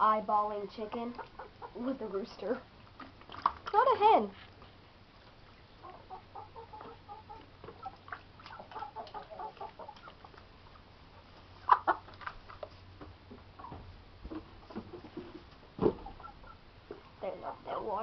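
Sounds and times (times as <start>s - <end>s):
chickens clucking: 0.6s - 3.5s, 4.6s - 18.0s.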